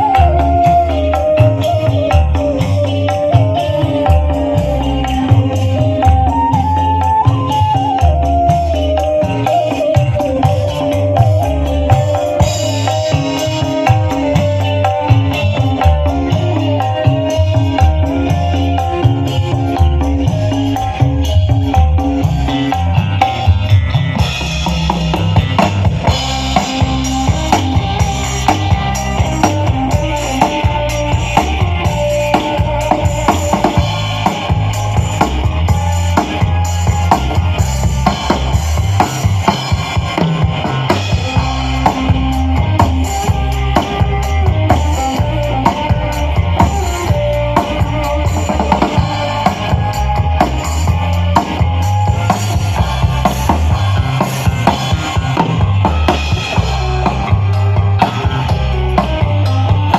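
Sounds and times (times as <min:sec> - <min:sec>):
band music through loudspeakers: 0:00.0 - 0:59.9
deep bass: 0:00.0 - 0:59.9
melodic instrument line: 0:00.0 - 0:59.9.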